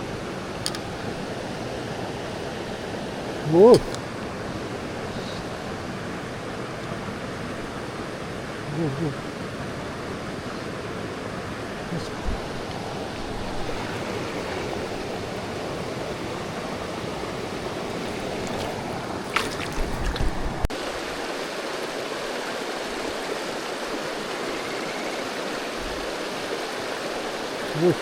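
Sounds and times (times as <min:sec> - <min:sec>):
river running over rocks: 0:00.0 - 0:28.0.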